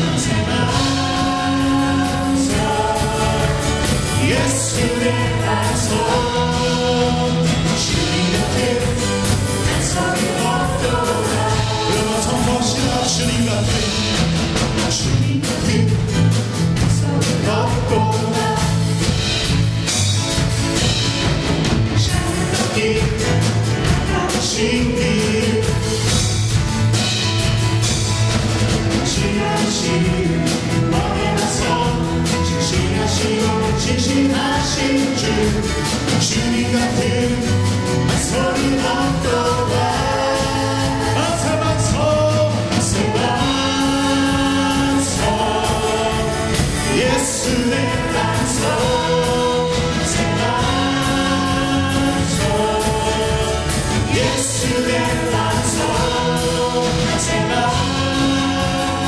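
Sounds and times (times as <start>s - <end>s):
vocalists singing a gospel song: 0.0s - 20.0s, 21.8s - 28.0s, 28.6s - 59.0s
band accompaniment with steady beat: 0.0s - 59.0s.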